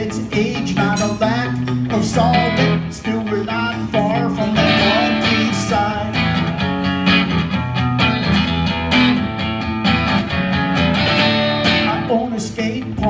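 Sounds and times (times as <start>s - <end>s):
electric guitar strumming chords: 0.0s - 13.0s.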